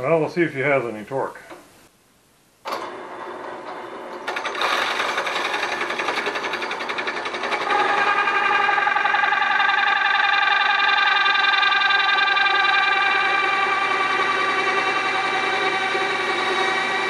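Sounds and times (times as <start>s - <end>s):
drill press hole saw boring wood: 2.7s - 17.0s.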